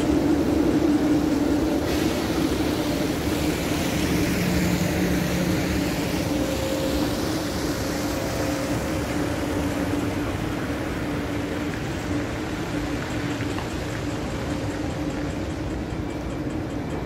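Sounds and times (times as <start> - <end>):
bus passing close by: 0.0 - 17.0
electric tram motors whining: 0.0 - 17.0
low traffic hum: 0.0 - 17.0.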